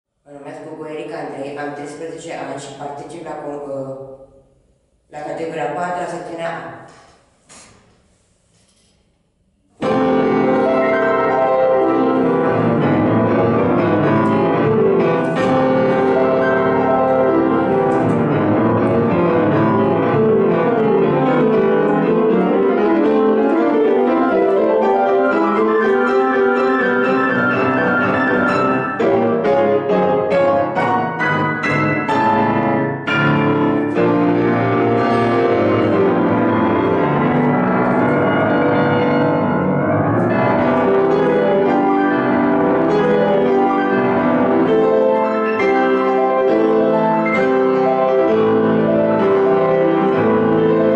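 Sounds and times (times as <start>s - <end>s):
grand piano playing: 9.8s - 50.9s.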